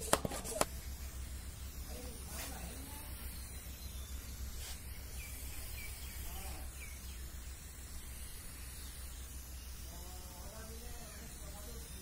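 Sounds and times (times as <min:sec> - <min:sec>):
low hum: 0:00.0 - 0:12.0
faint bird chirps: 0:01.6 - 0:12.0
spray bottle squirt: 0:02.1 - 0:11.9.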